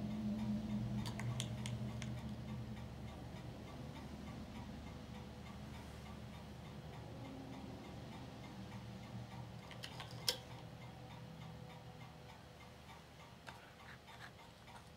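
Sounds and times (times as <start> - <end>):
projector humming and ticking: 0.0 - 14.9.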